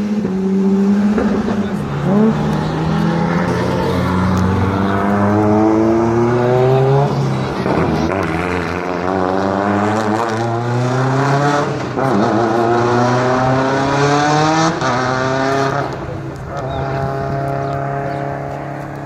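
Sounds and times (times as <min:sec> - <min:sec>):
rally car engine accelerating: 0:00.0 - 0:19.0.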